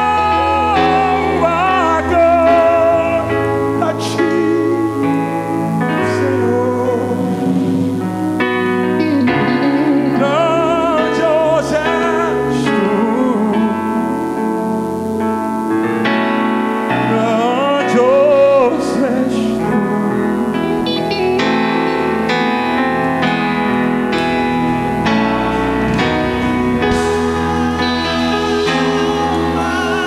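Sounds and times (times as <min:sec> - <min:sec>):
band playing: 0:00.0 - 0:30.0
man singing with vibrato: 0:00.0 - 0:30.0
sustained keyboard chords: 0:00.0 - 0:30.0.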